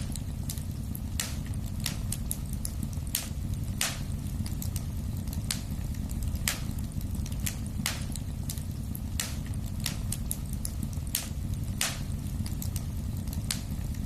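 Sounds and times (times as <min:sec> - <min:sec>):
fire flames rumbling: 0:00.0 - 0:14.0
wood fire crackling and popping: 0:00.0 - 0:14.0.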